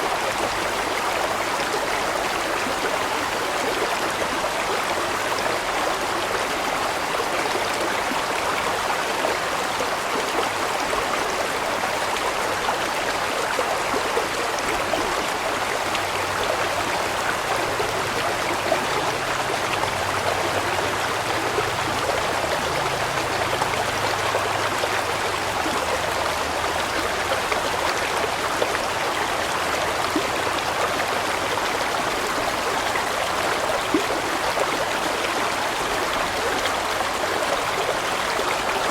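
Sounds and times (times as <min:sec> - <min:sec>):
stream water splashing over rocks: 0:00.0 - 0:38.9.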